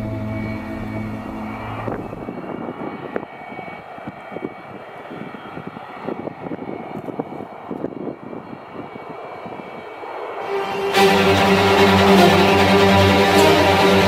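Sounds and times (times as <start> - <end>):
high jet whine: 0.0 - 14.0
jet engines roaring: 0.0 - 14.0.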